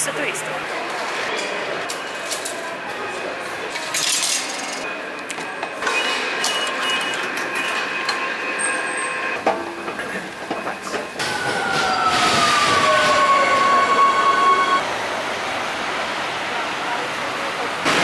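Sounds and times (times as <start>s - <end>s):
metro train running: 0.0s - 18.0s.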